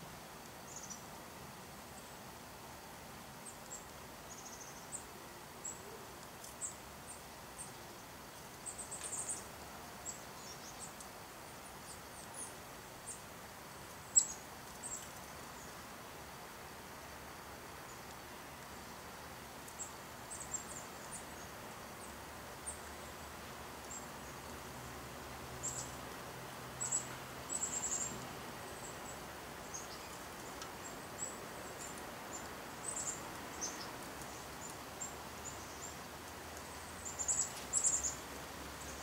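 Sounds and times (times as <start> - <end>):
faint steady hum: 0.0 - 39.0
small songbirds chirping: 0.0 - 39.0.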